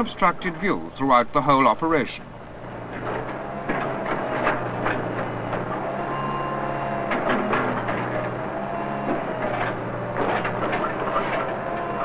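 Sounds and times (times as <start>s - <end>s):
backhoe engine running: 0.0s - 12.0s
hydraulic whine: 2.2s - 12.0s.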